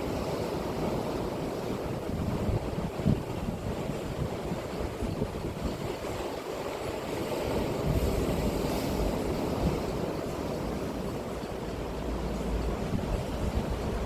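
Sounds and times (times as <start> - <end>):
sea waves breaking on beach: 0.0 - 14.0
wind rumbling on microphone: 0.0 - 14.0.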